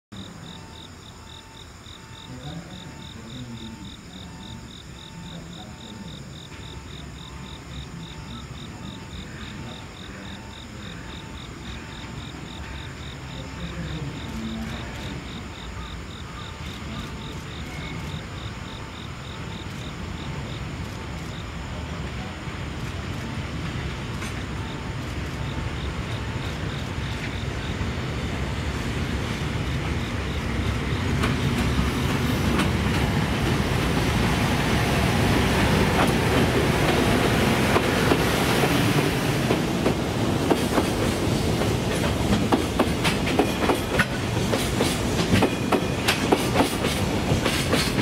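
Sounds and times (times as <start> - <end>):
approaching train rumble: 0.2 - 48.0.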